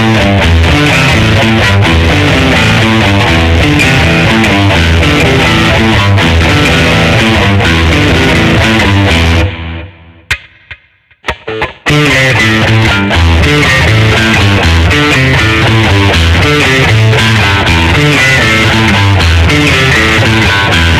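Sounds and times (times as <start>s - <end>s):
distorted electric guitar riff: 0.0s - 20.9s.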